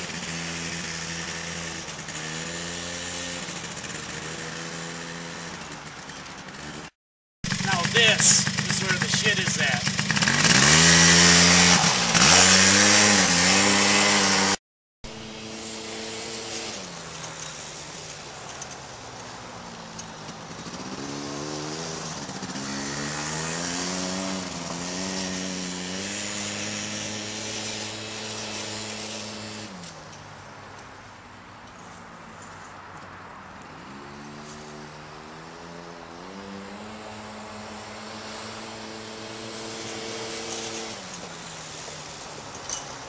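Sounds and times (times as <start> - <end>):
atv engine revving: 0.0 - 6.9, 7.5 - 30.1, 33.6 - 43.0.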